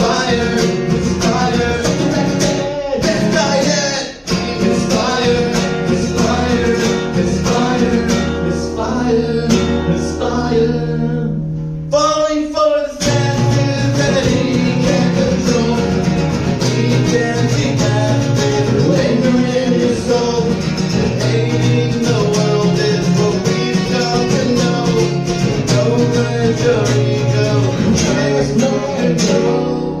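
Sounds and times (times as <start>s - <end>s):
live guitar band: 0.0s - 30.0s
person singing: 0.0s - 30.0s.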